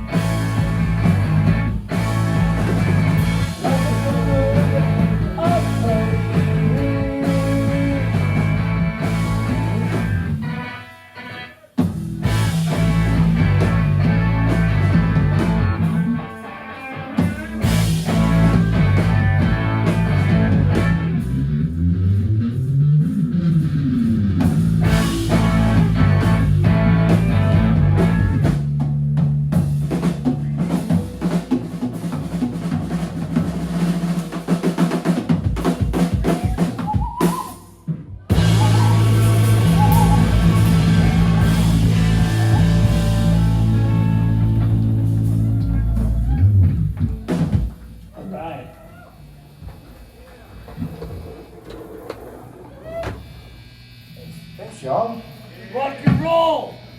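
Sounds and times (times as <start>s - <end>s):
rock music with drums and guitar: 0.0s - 56.9s.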